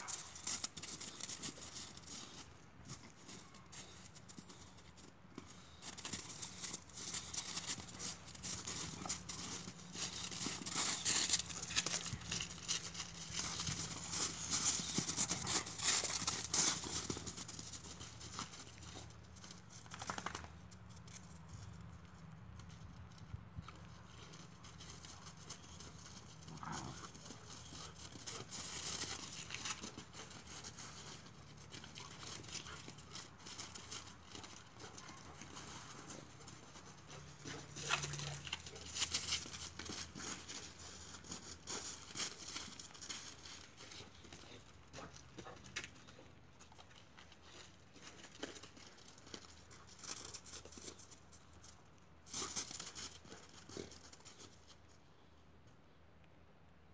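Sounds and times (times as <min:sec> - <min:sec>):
dog paws crunching icy snow: 0:00.0 - 0:20.3, 0:23.6 - 0:54.9.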